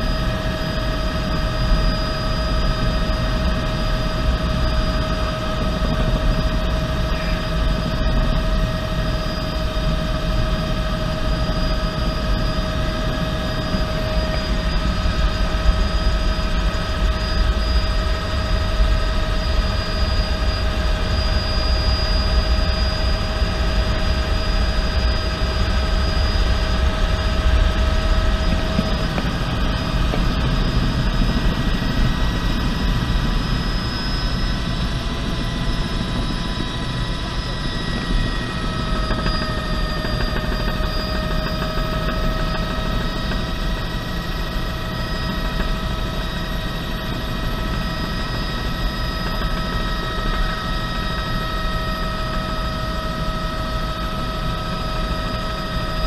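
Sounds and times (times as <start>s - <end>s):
helicopter rotor thrum: 0.0s - 56.0s
turbine engine whine: 0.0s - 56.0s.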